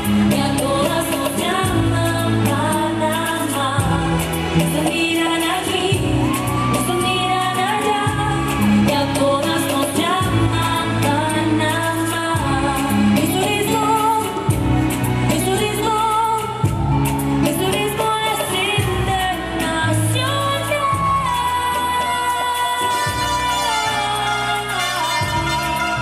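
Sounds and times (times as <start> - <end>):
dance music with singing: 0.0 - 26.0.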